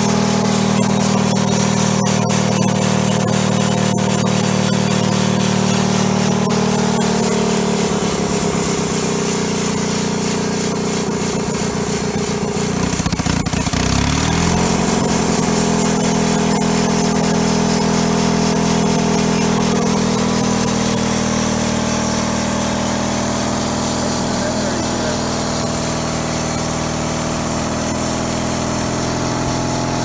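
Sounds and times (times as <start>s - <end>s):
bandsaw blade sawing log: 0.0s - 30.0s
engine running steadily: 0.0s - 30.0s.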